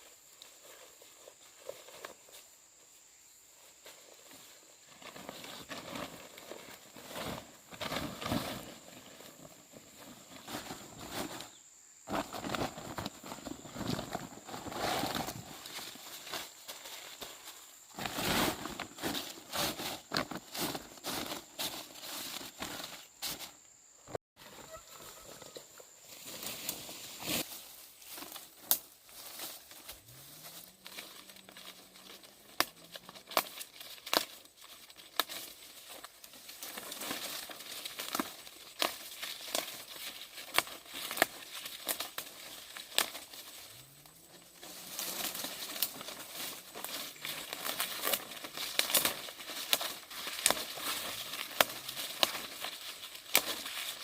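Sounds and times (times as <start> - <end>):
rustling and crinkling with snaps: 0.0 - 2.5, 3.6 - 23.6, 24.8 - 54.0.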